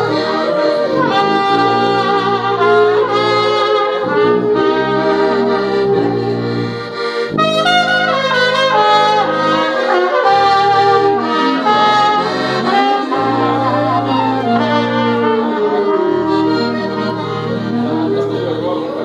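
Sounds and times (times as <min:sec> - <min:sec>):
accordion: 0:00.0 - 0:19.0
alto saxophone: 0:00.0 - 0:19.0
bass holding low notes: 0:00.0 - 0:19.0
clarinet: 0:00.0 - 0:19.0
trumpet: 0:00.0 - 0:19.0.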